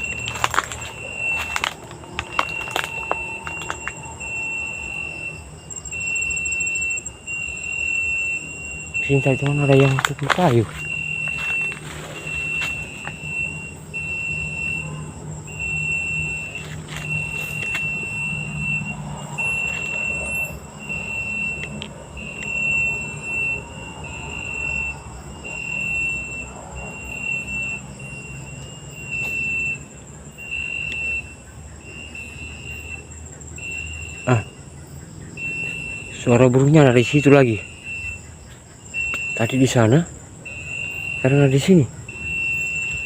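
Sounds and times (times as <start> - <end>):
high insect trill: 0.0 - 43.0.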